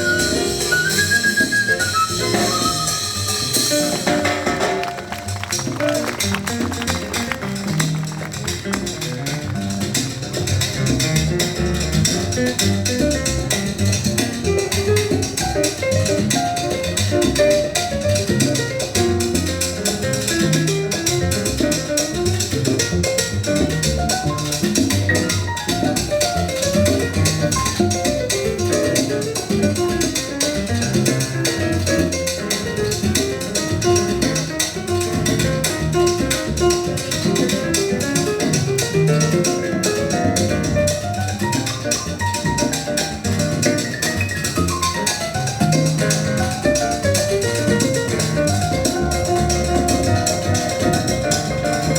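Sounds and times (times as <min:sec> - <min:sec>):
drum kit: 0:00.0 - 0:51.9
latin jazz ensemble playing: 0:00.0 - 0:51.9.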